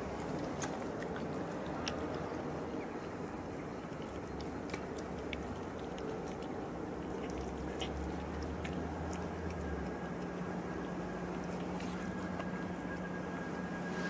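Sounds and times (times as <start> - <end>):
cat chewing and lapping: 0.0 - 14.0.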